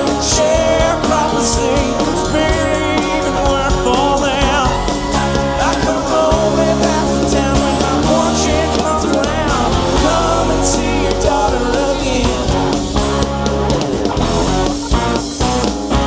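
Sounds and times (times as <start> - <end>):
man singing: 0.0 - 12.9
live rock band playing: 0.0 - 16.0.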